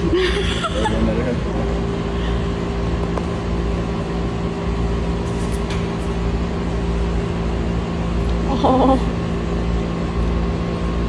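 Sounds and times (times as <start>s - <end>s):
motor hum with low tones: 0.0s - 11.0s.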